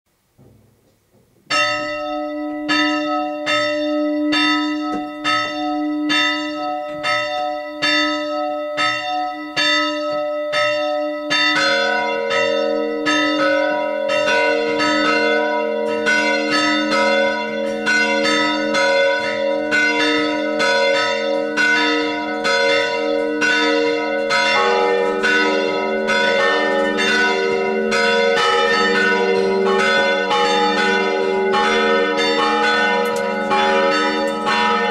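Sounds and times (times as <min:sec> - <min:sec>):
church bells ringing: 0:01.5 - 0:34.9.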